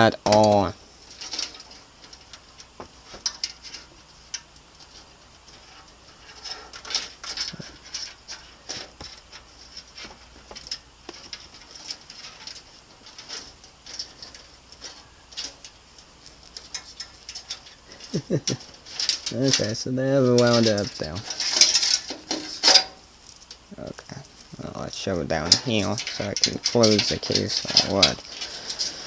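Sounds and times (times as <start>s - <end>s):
cables clicking and rustling: 0.0s - 29.0s.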